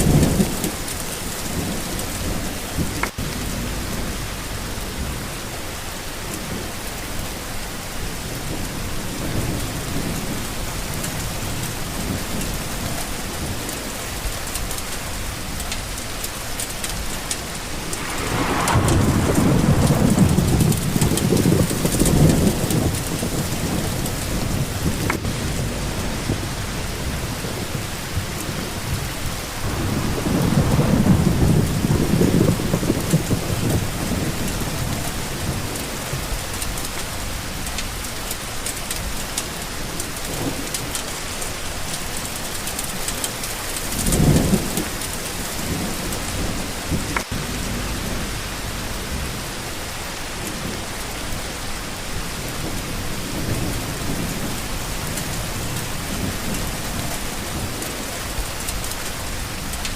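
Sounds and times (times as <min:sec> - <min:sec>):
low rumble of thunder: 0:00.0 - 0:41.0, 0:41.6 - 0:59.9
steady rain falling: 0:00.0 - 0:59.9.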